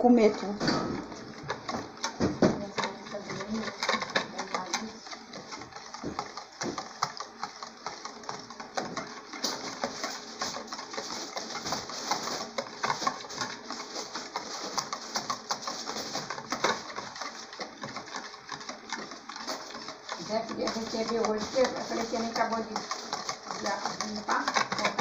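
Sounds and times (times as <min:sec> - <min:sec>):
whisk clicking against plastic bowl: 0:00.0 - 0:25.0.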